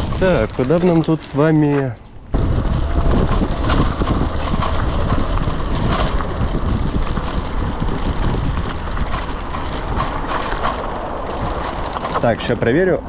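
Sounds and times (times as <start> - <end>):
small knocks from riding: 0.0 - 12.9
tyres rumbling on ground: 0.0 - 13.0
wind rushing over microphone: 0.0 - 13.0.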